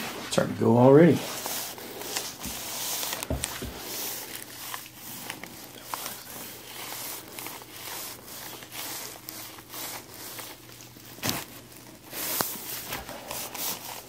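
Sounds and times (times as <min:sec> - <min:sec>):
clothing and skin rustling: 0:00.0 - 0:14.0.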